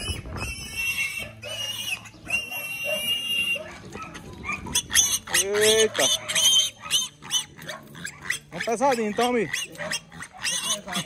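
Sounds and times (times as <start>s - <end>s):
pig squealing: 0.0s - 11.0s.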